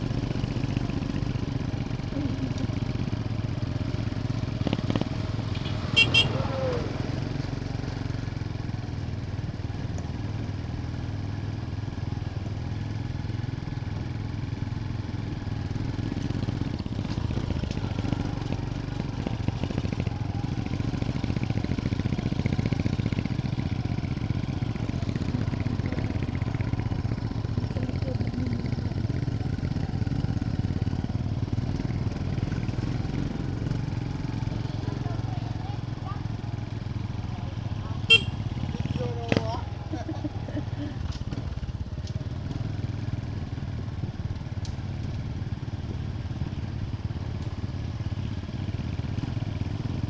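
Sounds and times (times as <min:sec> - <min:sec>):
motorcycle engines running: 0:00.0 - 0:50.0
road and wind noise: 0:00.0 - 0:50.0.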